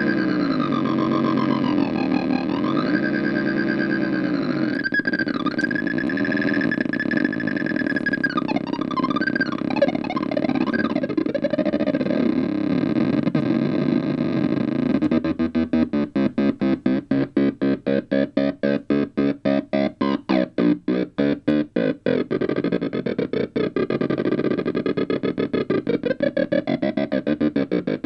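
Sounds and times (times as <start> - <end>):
buzzy electronic tone: 0.0 - 28.0.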